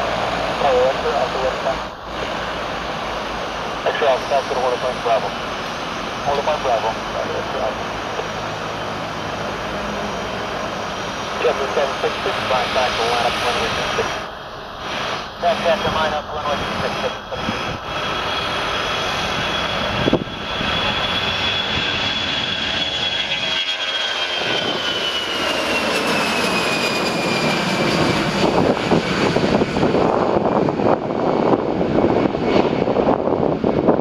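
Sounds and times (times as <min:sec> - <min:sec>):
jet engine rumble: 0:00.0 - 0:34.0
jet engine whine: 0:00.0 - 0:34.0.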